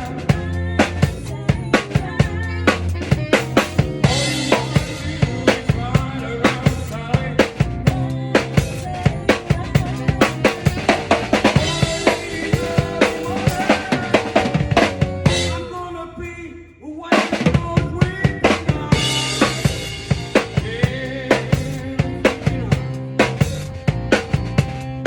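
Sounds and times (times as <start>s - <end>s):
drum kit: 0.0s - 16.0s, 17.1s - 25.0s
live band playing: 0.0s - 16.0s, 17.1s - 25.0s.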